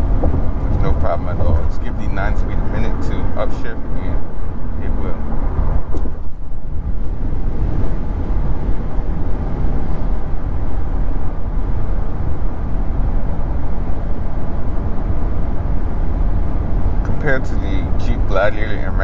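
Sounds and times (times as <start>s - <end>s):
road and tyre noise in cab: 0.0s - 19.0s.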